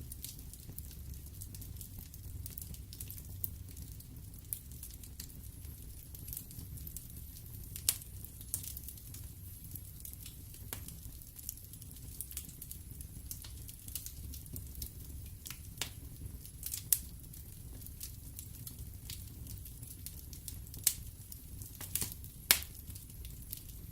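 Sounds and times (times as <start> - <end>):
burning logs crackling and popping: 0.0 - 23.9
low rumble of flames: 0.0 - 23.9.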